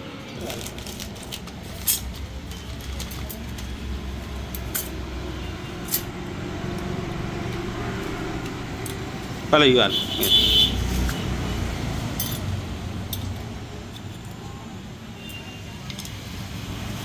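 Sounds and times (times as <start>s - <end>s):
vehicle engine rumbling: 0.4s - 14.8s.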